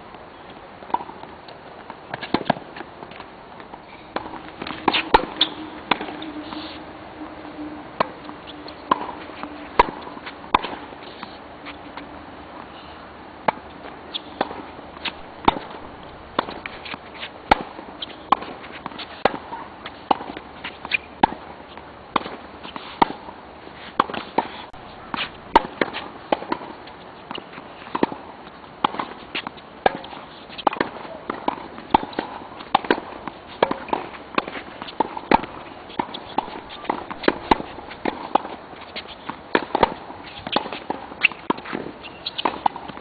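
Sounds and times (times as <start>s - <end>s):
tennis balls struck by rackets: 0.8s - 6.3s, 8.0s - 12.1s, 13.4s - 21.5s, 22.1s - 43.0s.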